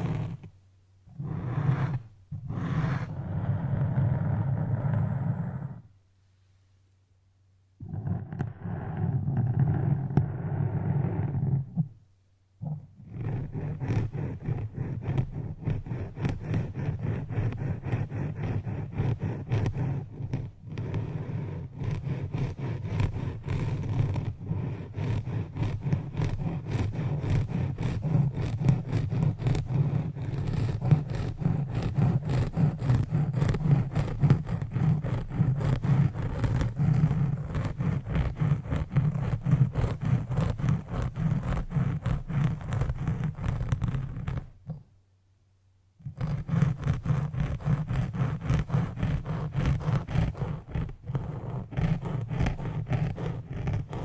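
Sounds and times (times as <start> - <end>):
scratching and rubbing strokes: 0.0 - 0.5, 1.1 - 6.8, 7.8 - 12.0, 12.6 - 44.8, 46.0 - 54.0.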